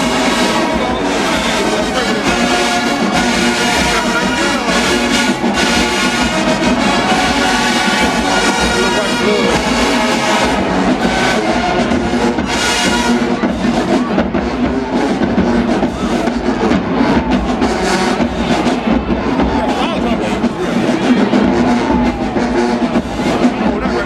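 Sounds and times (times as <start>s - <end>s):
marching band playing: 0.0s - 24.0s
trombones and trumpets: 0.0s - 24.0s.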